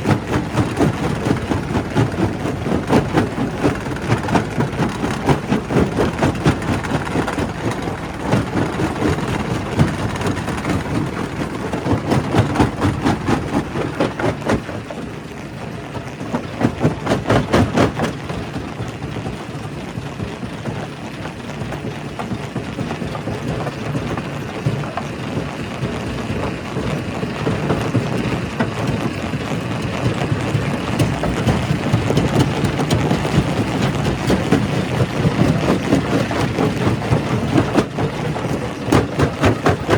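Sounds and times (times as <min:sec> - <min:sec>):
rock crusher rumbling: 0:00.0 - 0:39.9.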